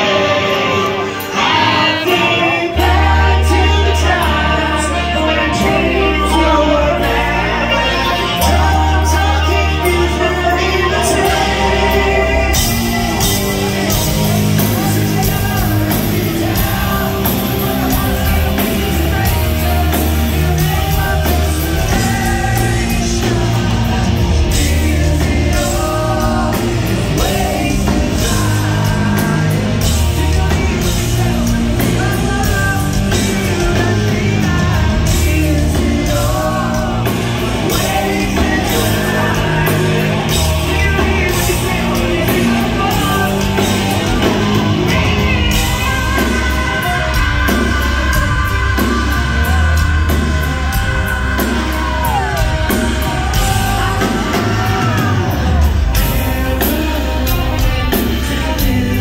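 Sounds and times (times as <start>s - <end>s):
live rock band playing: 0.0s - 59.0s
man singing: 0.0s - 59.0s.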